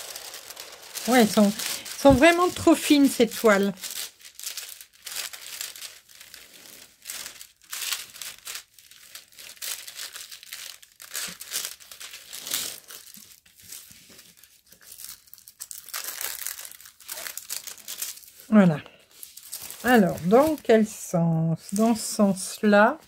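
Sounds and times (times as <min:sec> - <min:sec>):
plastic film crinkling: 0:00.0 - 0:23.0.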